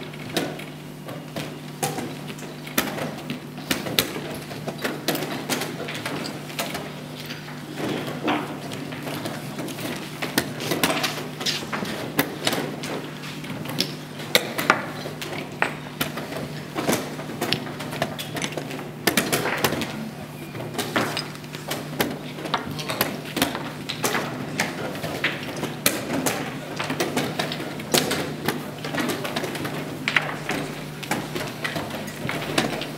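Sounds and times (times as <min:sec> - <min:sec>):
chess pieces clacking on boards: 0:01.8 - 0:20.0, 0:20.6 - 0:32.9.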